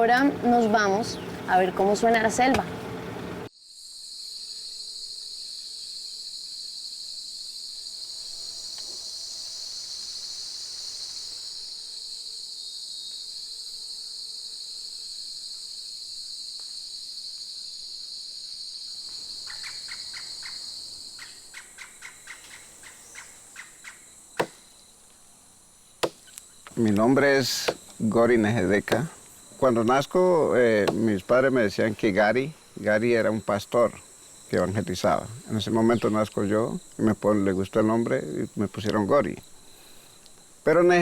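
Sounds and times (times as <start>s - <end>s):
insect chorus drone: 0.0s - 2.6s, 3.4s - 41.0s.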